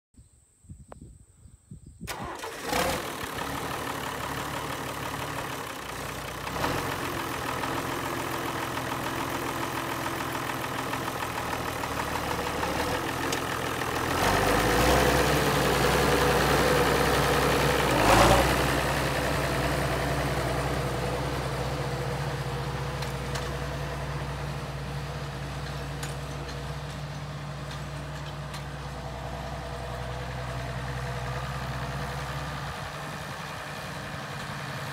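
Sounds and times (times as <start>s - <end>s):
tractor engine running: 2.1s - 34.9s.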